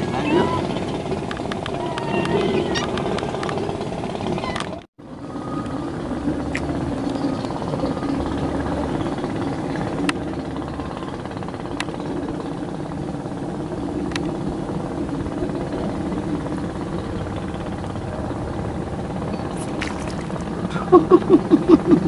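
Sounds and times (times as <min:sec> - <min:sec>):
engine droning: 0:00.0 - 0:22.0.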